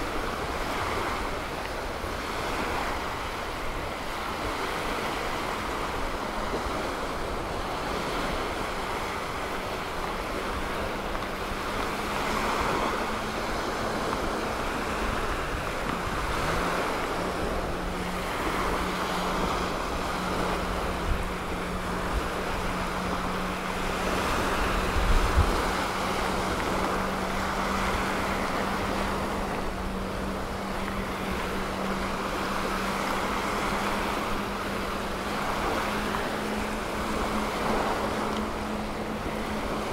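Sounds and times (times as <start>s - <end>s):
low motor hum: 0.0s - 39.9s
small waves washing onto beach: 0.0s - 39.9s
wind on microphone: 0.0s - 39.9s.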